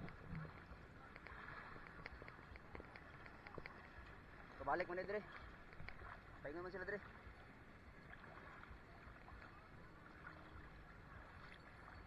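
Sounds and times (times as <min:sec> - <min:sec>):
water lapping and sloshing: 0:00.0 - 0:12.0.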